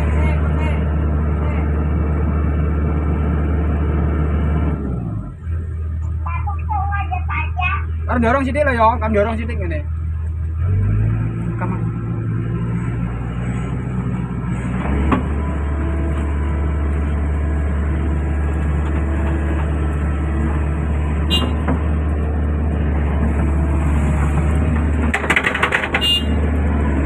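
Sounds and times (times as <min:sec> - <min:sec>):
diesel engine droning: 0:00.0 - 0:27.0.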